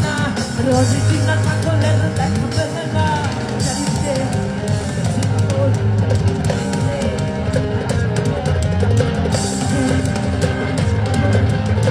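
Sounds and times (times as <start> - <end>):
bass guitar: 0.0 - 11.9
drum kit beat: 0.0 - 11.9
guitar: 0.0 - 11.9.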